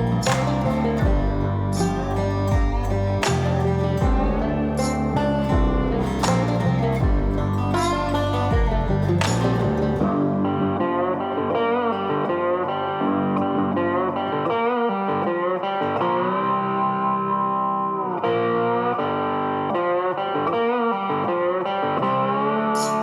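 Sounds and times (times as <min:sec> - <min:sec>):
plucked electric guitar music: 0:00.0 - 0:23.0.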